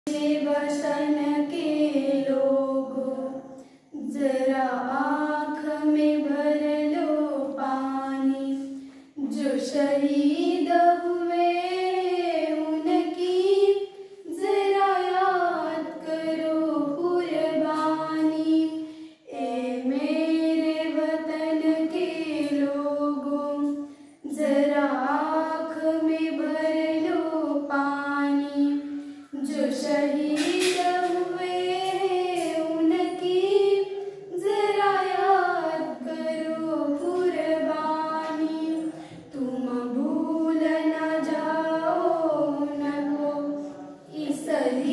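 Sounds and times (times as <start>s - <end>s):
girls singing without accompaniment: 0.0s - 44.9s.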